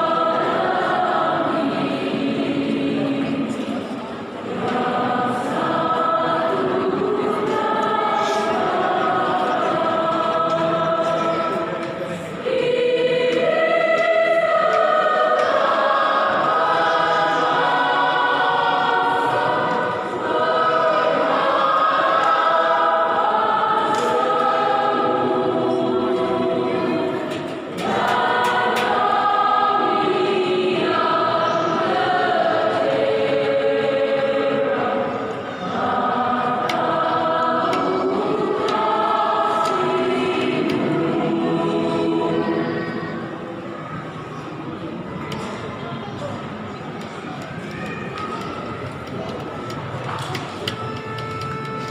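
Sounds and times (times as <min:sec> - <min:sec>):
choir singing a hymn: 0:00.0 - 0:45.7.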